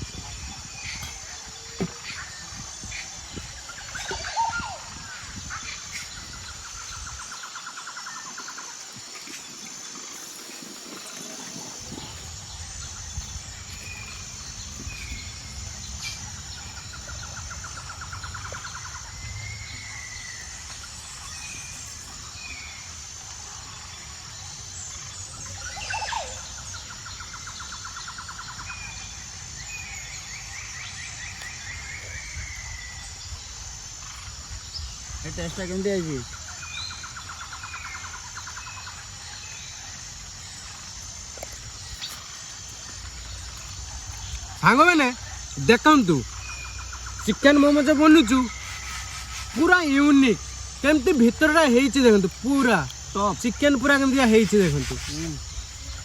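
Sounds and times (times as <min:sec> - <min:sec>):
birds chirping: 0:00.0 - 0:56.0
insects pulsing chirp: 0:00.0 - 0:56.0.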